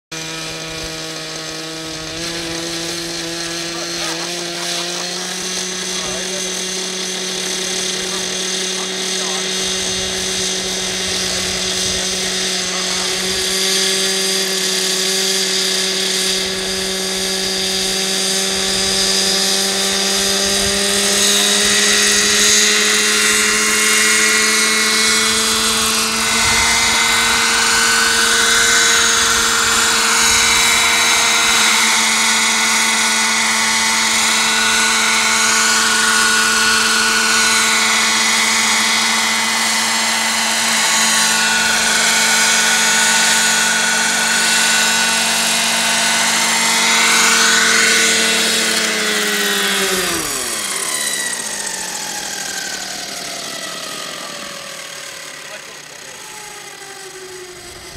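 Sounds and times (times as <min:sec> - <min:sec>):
model helicopter motor and rotors: 0:00.1 - 0:57.9.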